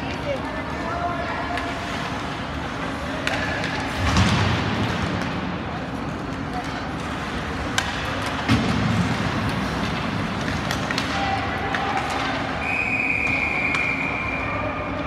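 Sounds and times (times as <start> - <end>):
din of ice hockey play: 0.0 - 15.0.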